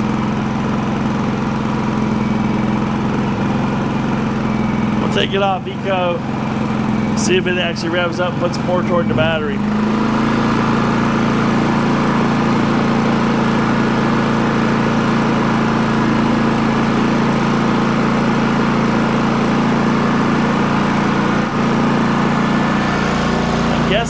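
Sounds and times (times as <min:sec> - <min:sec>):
generator running: 0:00.0 - 0:24.0.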